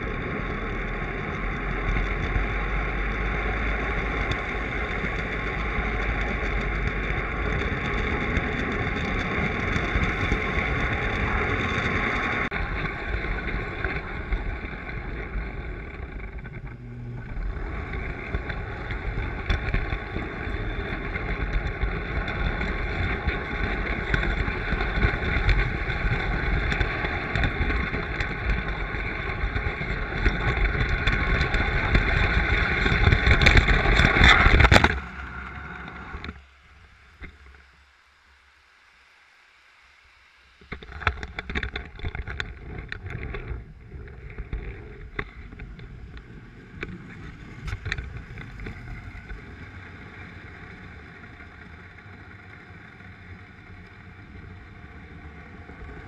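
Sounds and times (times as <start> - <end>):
toy train rumbling on track: 0.0 - 37.9, 38.8 - 56.0
faint steady running noise: 0.0 - 56.0.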